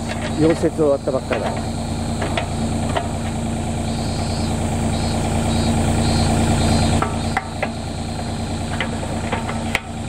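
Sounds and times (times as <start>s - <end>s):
excavator engine idling: 0.0s - 10.0s.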